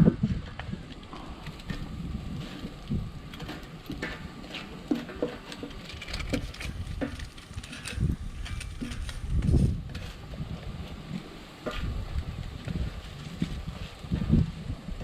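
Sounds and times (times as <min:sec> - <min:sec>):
campfire crackling: 0:00.0 - 0:15.0
low rumble of fire: 0:00.0 - 0:15.0.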